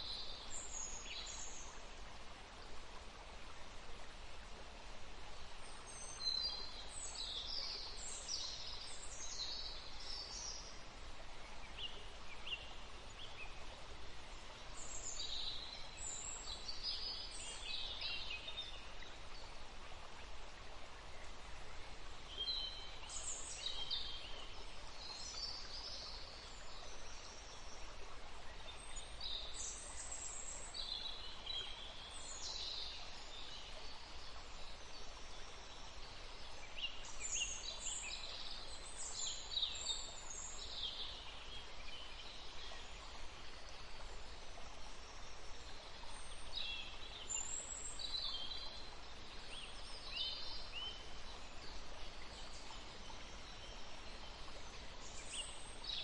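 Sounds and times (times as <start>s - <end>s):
forest stream rushing: 0.0s - 56.0s
songbirds chirping: 0.0s - 56.0s.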